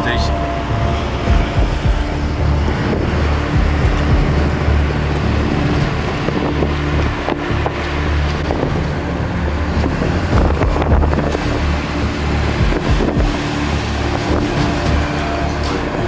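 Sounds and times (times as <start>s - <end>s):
vehicle engine and road drone: 0.0s - 16.0s
wind rushing over microphone: 0.0s - 16.0s.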